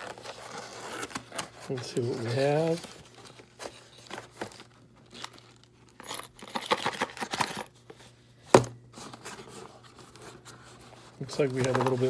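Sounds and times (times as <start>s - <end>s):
paper packing rustling: 0.0s - 7.6s, 8.9s - 12.0s.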